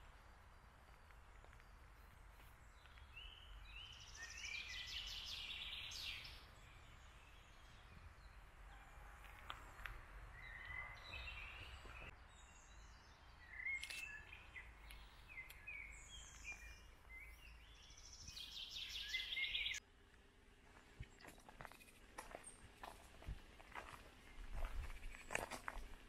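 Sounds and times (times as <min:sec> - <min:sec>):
songbirds chirping and trilling: 0:00.0 - 0:19.8, 0:21.0 - 0:26.0.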